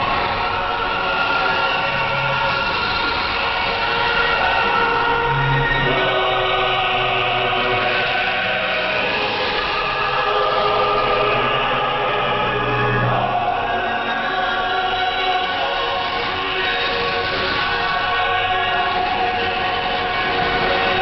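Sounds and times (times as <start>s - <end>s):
choral singing on shortwave radio: 0.0s - 21.0s.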